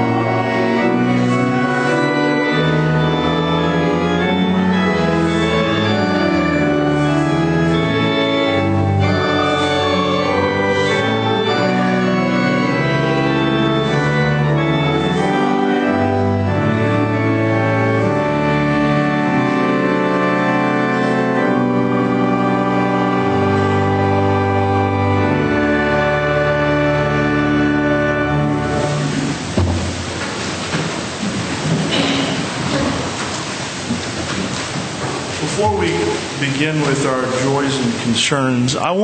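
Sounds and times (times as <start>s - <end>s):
organ playing slow chords: 0.0s - 31.2s.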